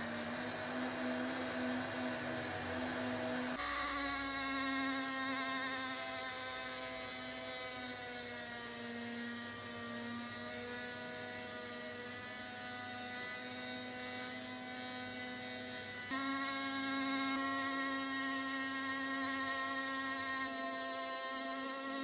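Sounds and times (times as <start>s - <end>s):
power tool motor humming: 0.0s - 22.0s.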